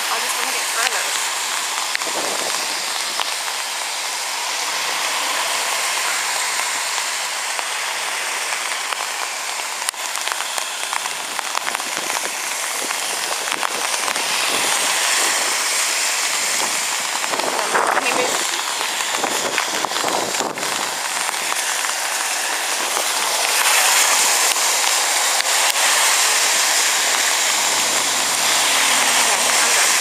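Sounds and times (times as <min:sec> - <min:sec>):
floodwater rushing in creek: 0:00.0 - 0:30.0.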